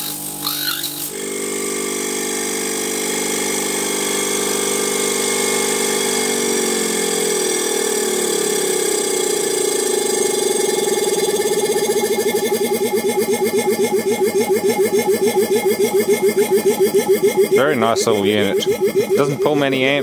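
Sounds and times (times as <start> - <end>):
refrigeration compressor drone: 0.0 - 20.0.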